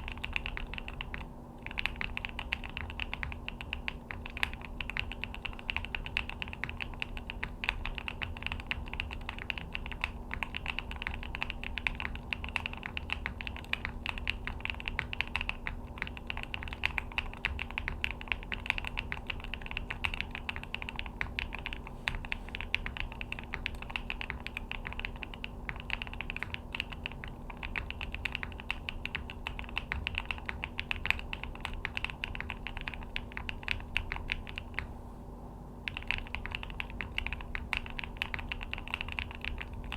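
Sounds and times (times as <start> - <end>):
mechanical keyboard typing: 0.0 - 34.9, 35.8 - 39.9.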